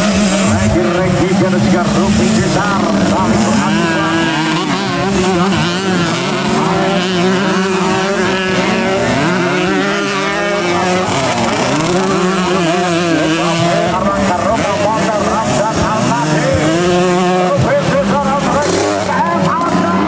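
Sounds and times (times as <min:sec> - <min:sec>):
racing motorcycle engines revving: 0:00.0 - 0:20.0.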